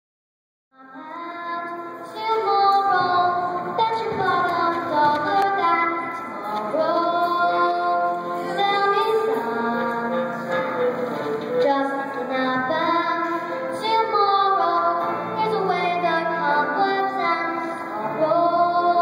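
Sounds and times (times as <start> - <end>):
girl singing: 0.8 - 10.7, 11.5 - 19.0.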